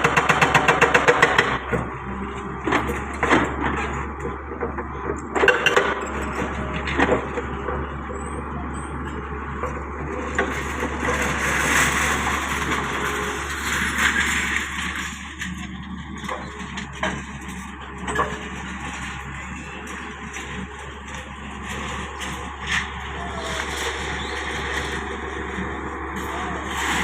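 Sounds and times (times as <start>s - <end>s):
excavator rumble: 0.0s - 27.0s.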